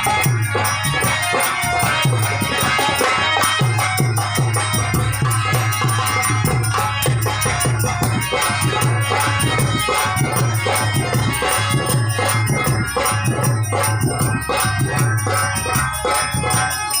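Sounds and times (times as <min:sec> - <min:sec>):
harmonium melody: 0:00.0 - 0:17.0
percussion beat: 0:00.0 - 0:17.0.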